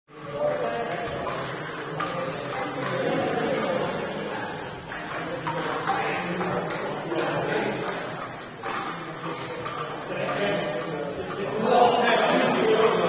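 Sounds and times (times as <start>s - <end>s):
murmur of voices: 0.1s - 13.0s
table tennis balls clicking: 0.1s - 13.0s.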